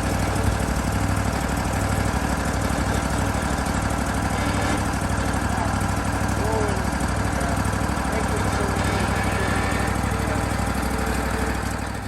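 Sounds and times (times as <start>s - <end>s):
sawmill engine idling: 0.0s - 12.0s.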